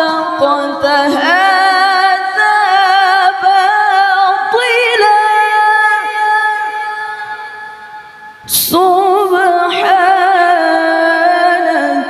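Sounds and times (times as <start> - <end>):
woman reciting melodically: 0.0 - 7.9, 8.5 - 12.0.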